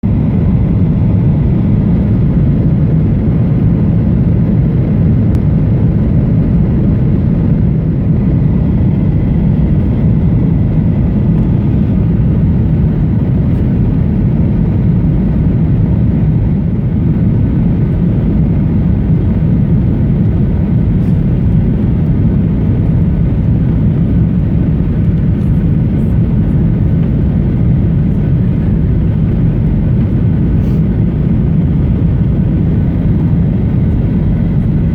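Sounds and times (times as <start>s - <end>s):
airplane cabin rumble: 0.0s - 34.9s.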